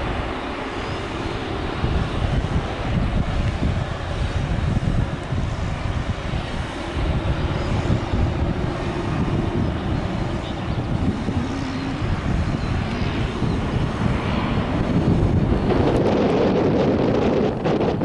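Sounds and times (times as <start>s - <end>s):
jet engines of passing plane: 0.0s - 18.0s
wind buffeting microphone: 0.0s - 18.0s.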